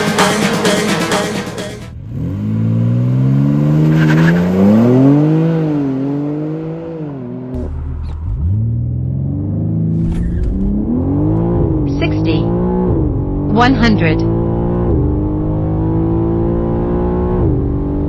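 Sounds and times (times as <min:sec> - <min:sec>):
car engine accelerating hard: 0:01.9 - 0:18.0.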